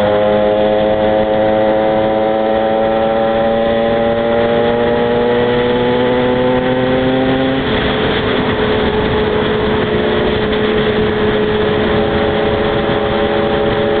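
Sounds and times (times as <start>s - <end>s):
two-stroke motorcycle engine: 0.0s - 14.0s.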